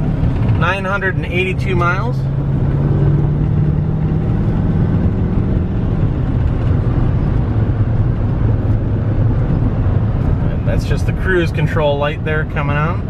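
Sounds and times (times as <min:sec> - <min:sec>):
diesel engine hum: 0:00.0 - 0:13.0
road and tyre rumble: 0:00.0 - 0:13.0.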